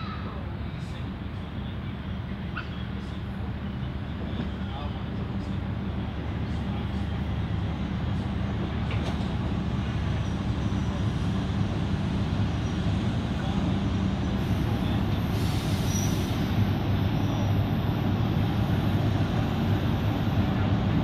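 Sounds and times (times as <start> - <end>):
diesel railcar engine drone: 0.0 - 21.0.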